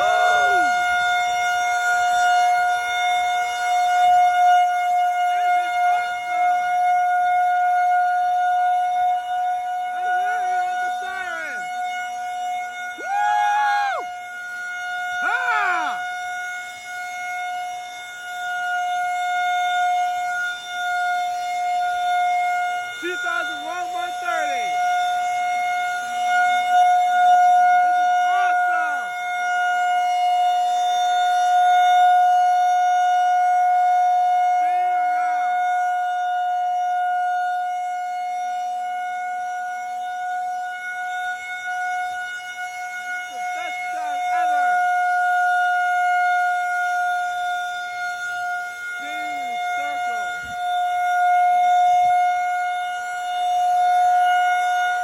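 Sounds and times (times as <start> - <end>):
rotating warning siren steady tone: 0.0 - 55.0.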